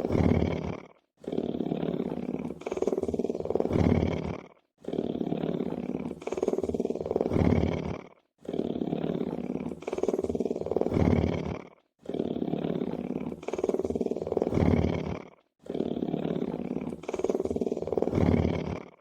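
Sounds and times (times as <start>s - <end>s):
lion purring: 0.0s - 19.0s.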